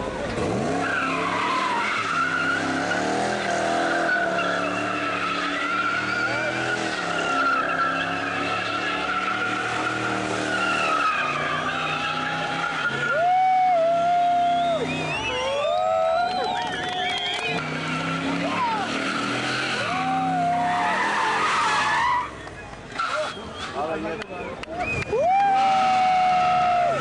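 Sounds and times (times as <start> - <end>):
car engine at high revs: 0.0 - 27.0
tyres squealing: 0.7 - 26.1.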